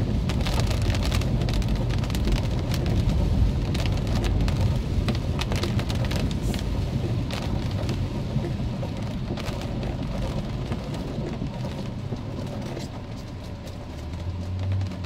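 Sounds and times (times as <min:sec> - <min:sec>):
rain falling on a car: 0:00.0 - 0:15.0
road and engine rumble: 0:00.0 - 0:15.0.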